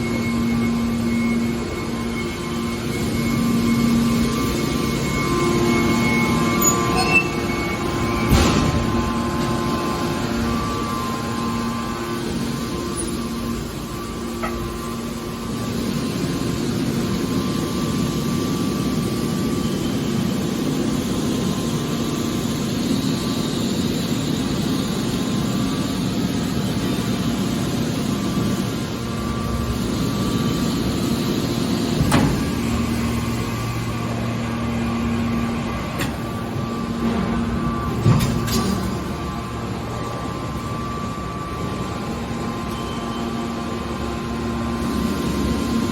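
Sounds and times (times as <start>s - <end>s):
hydraulic baler humming: 0.0s - 45.9s.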